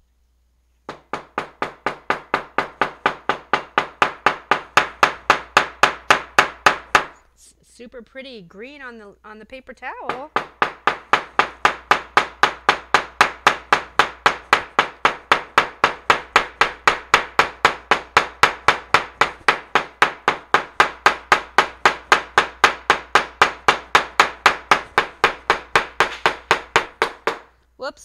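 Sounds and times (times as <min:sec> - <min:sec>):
hammer pounding on tabletop: 0:00.9 - 0:07.2, 0:10.0 - 0:27.6.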